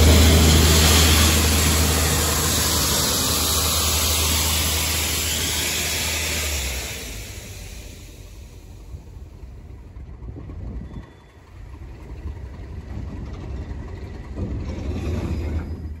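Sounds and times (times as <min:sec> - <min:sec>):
diesel locomotive engine throb: 0:00.0 - 0:16.0
train wheels rumbling on rails: 0:00.0 - 0:16.0.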